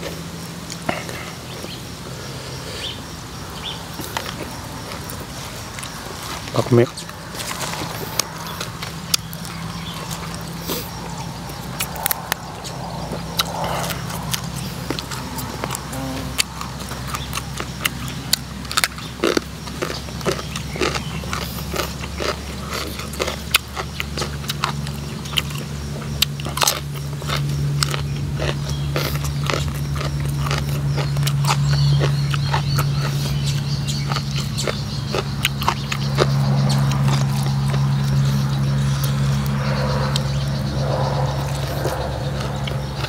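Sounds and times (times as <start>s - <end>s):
low steady hum: 0.0s - 43.0s
crunching raw vegetables: 2.6s - 43.0s.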